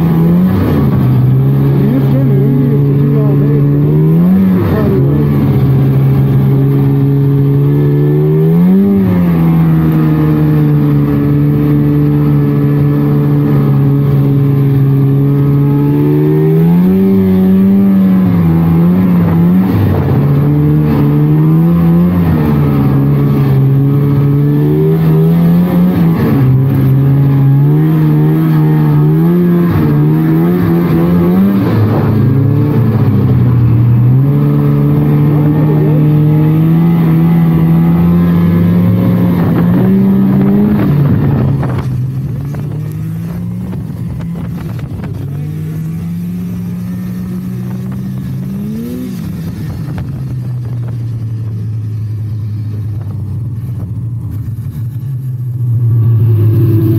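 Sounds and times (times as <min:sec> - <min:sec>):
snowmobile engine running: 0:00.0 - 0:56.9.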